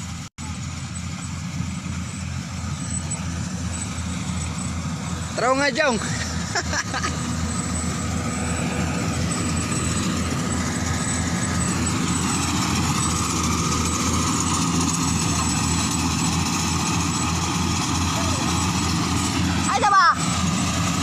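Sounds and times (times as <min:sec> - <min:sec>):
engine running with low pulse: 0:00.0 - 0:21.0.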